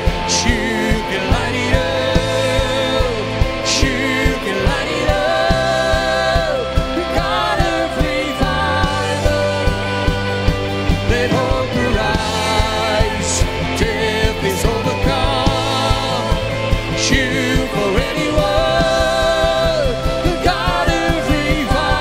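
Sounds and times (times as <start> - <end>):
acoustic guitar: 0.0 - 22.0
drum kit with cymbals: 0.0 - 22.0
woman singing lead: 0.0 - 22.0.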